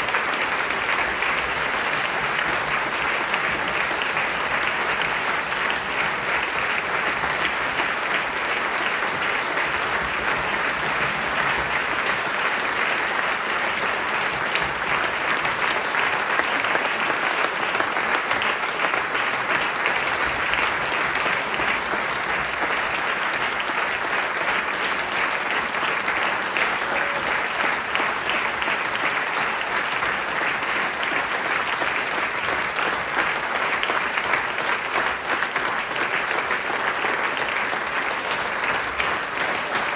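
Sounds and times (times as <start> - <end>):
audience clapping: 0.0 - 39.9.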